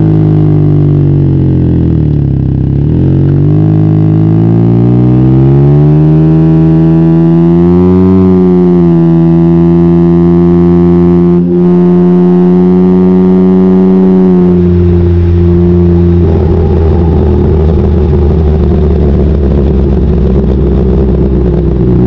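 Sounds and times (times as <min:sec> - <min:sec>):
loud motorcycle engine: 0:00.0 - 0:22.0.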